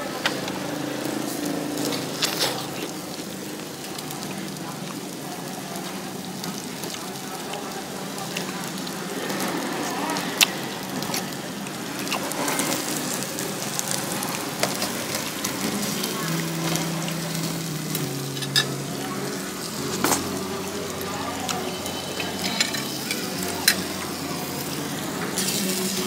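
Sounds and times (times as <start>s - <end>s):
food frying in hot oil: 0.0s - 26.0s.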